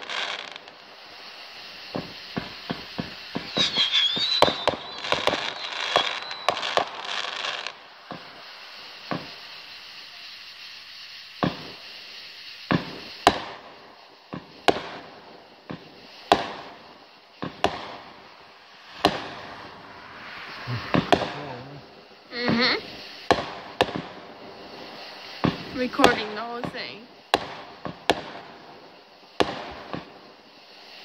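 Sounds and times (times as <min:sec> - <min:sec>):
firework bangs: 0:00.0 - 0:31.0
firework whistle: 0:00.0 - 0:31.0
fireworks crackling: 0:00.0 - 0:31.0.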